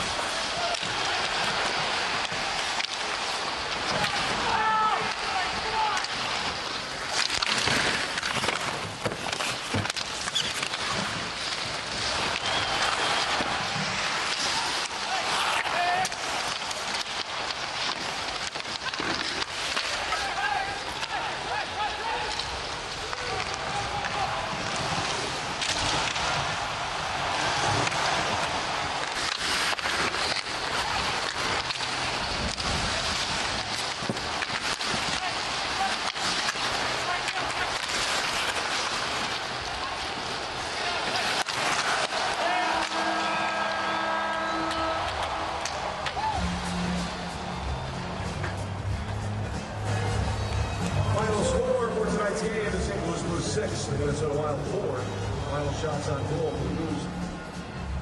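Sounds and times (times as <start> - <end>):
skate blades scraping ice: 0.0 - 53.9
sticks and puck clacking: 0.0 - 53.9
crowd noise: 0.0 - 58.0.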